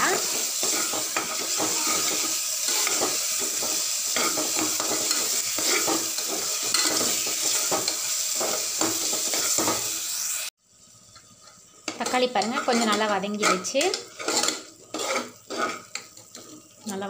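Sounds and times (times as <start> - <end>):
masala sizzling in a pot: 0.0 - 17.0
metal spoon scraping a pot: 0.2 - 9.8, 11.2 - 16.7.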